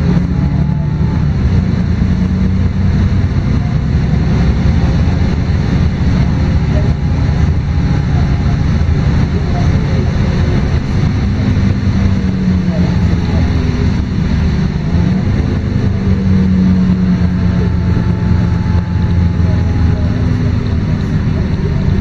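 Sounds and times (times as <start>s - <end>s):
bus diesel engine droning: 0.0s - 22.0s
road noise: 0.0s - 22.0s.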